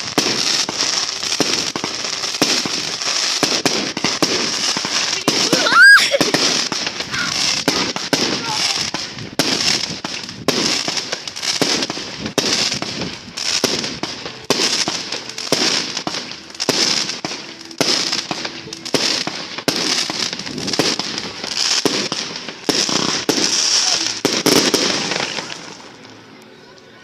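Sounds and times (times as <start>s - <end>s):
fireworks bangs with crackling hiss: 0.0s - 27.0s.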